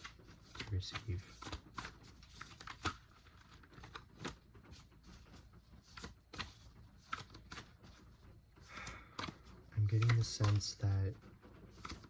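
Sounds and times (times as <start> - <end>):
cards being shuffled: 0.0 - 8.0, 8.6 - 11.0, 11.7 - 12.0.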